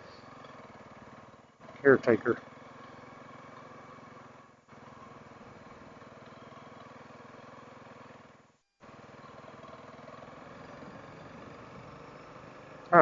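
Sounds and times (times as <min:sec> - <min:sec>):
faint motorcycle engine running: 0:00.0 - 0:13.0.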